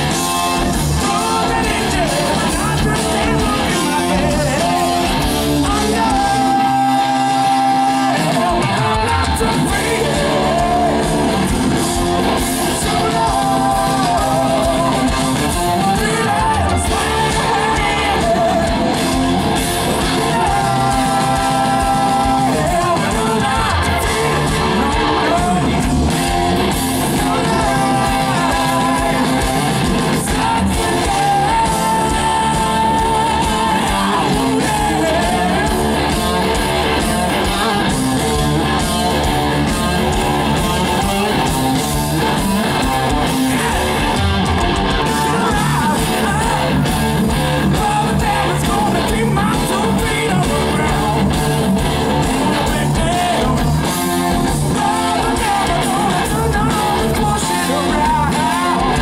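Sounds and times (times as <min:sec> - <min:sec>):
man singing: 0:00.0 - 0:26.2, 0:26.9 - 0:59.0
bass guitar: 0:00.0 - 0:59.0
drums: 0:00.0 - 0:59.0
electric guitars: 0:00.0 - 0:59.0.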